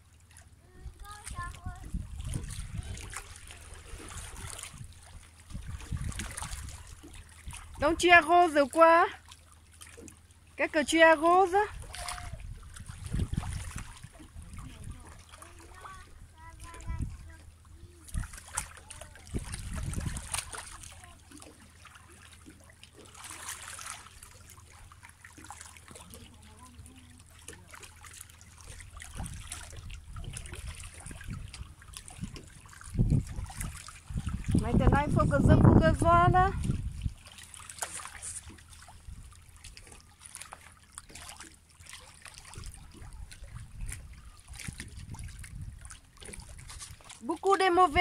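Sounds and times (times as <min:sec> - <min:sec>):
sea water lapping on rocks: 0:00.0 - 0:48.0.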